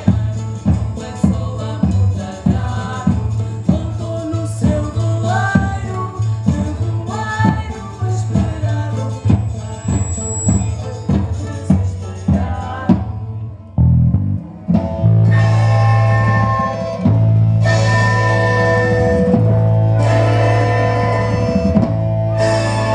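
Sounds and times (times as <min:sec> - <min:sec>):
folk ensemble playing dance tune: 0:00.0 - 0:22.9.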